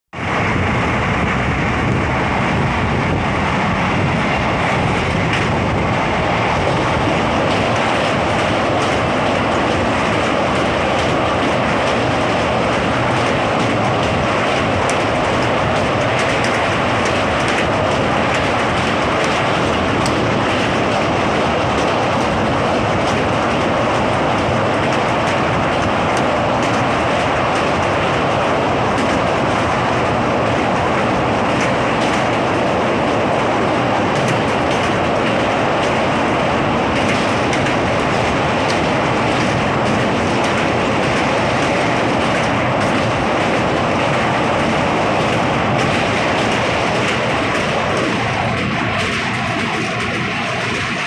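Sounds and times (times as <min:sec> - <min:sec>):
train wheels on rail: 0:00.1 - 0:51.0.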